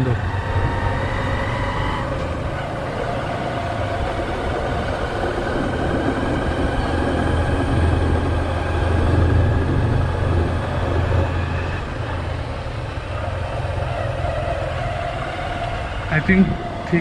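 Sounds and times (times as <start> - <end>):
motorcycle engine humming: 0.0 - 17.0.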